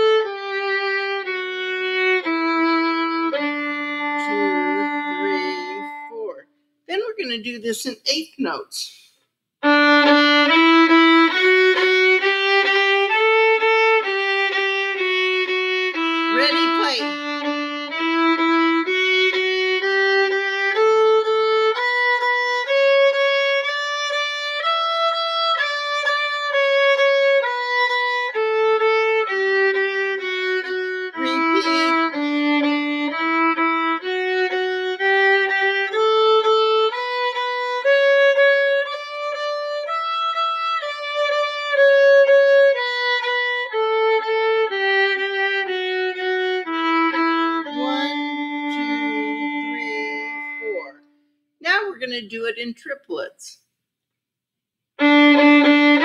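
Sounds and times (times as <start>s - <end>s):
solo violin bowing scale: 0.0s - 6.4s, 9.6s - 51.0s, 55.0s - 56.0s.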